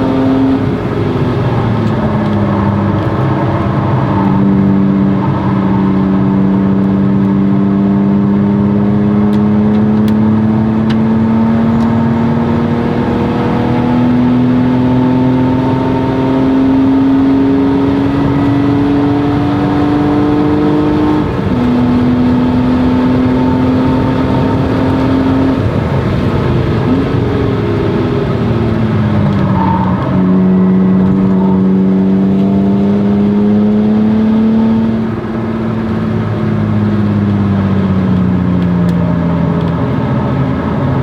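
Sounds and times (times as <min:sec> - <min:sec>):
car engine running hard: 0:00.0 - 0:41.0.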